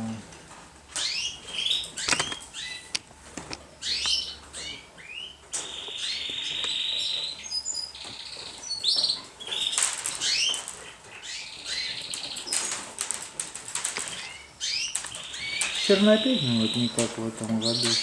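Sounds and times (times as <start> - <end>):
young pigeons peeping: 0.0 - 18.0.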